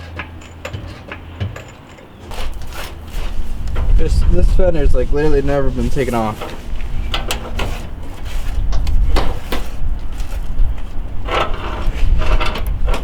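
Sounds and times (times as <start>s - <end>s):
hands working car fender loose: 0.0s - 4.4s, 6.3s - 13.0s
steady low rumble: 2.3s - 13.0s.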